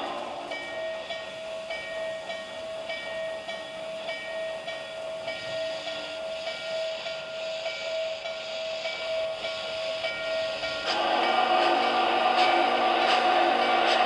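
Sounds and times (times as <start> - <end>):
model train steam chuffs: 0.0 - 14.0
steam hiss: 0.0 - 14.0.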